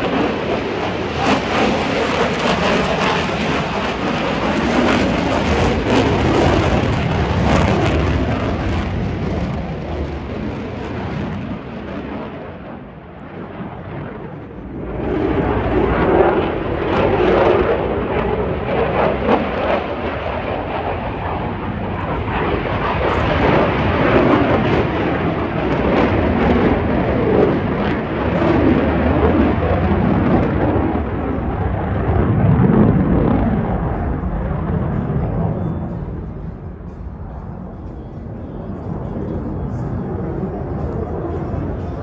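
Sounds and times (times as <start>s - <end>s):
jet engine flyby: 0.0s - 42.0s.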